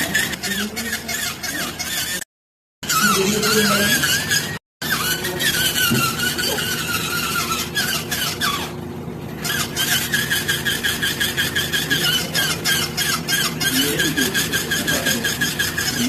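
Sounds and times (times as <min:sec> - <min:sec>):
squeaky toy squeaking: 0:00.0 - 0:08.8, 0:09.4 - 0:16.0.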